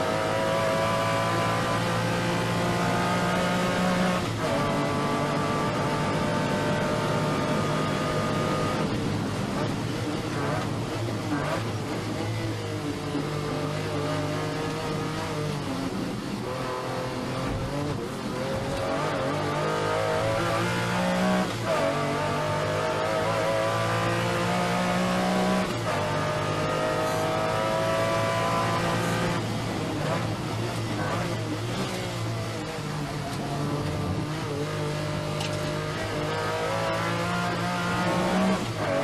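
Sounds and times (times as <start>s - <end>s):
sports car engine accelerating: 0.0s - 39.0s.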